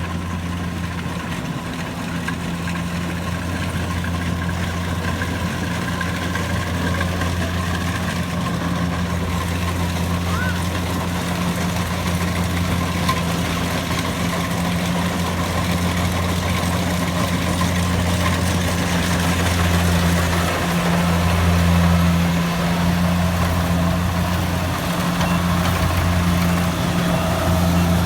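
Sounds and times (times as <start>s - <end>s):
engine droning: 0.0s - 28.0s.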